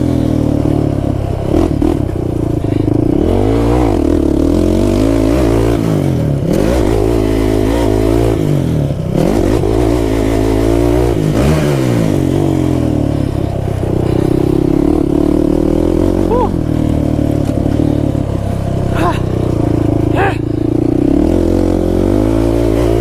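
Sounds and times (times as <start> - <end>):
quad engine revving: 0.0 - 23.0.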